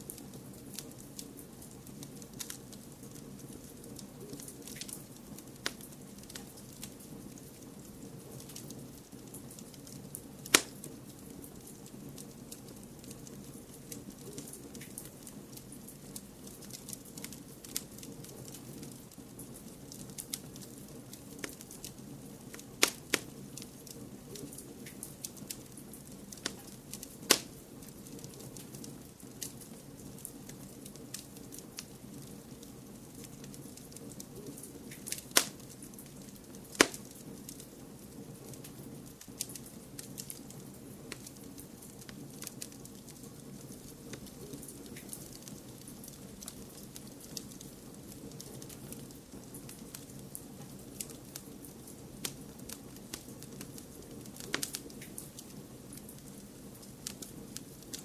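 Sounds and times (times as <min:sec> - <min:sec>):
wood fire crackling: 0:00.0 - 0:58.0
sharp pops of fire: 0:00.1 - 0:07.7, 0:08.4 - 0:11.0, 0:11.6 - 0:58.0.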